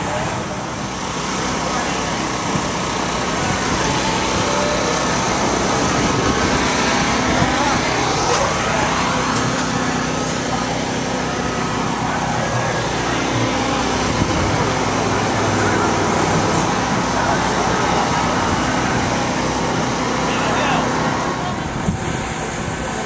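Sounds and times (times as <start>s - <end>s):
vehicle engines and traffic: 0.0s - 23.0s.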